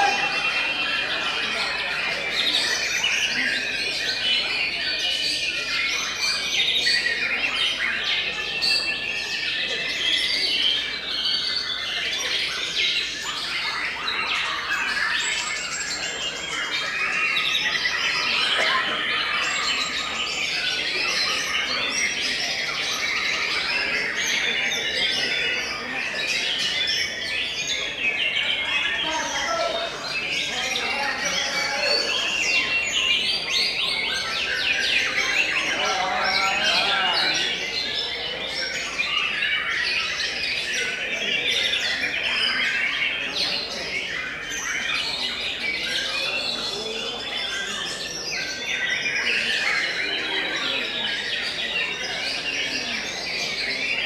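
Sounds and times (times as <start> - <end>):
songbirds whistling and chattering: 0.0 - 54.0.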